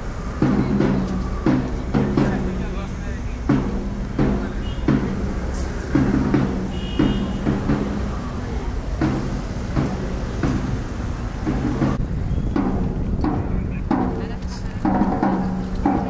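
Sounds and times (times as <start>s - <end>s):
low drum thuds: 0.0s - 16.0s
street noise rumble: 0.0s - 16.0s.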